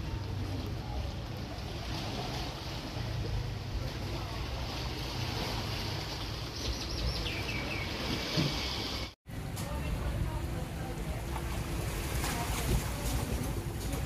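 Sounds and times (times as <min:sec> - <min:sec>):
small waves lapping: 0:00.0 - 0:14.0.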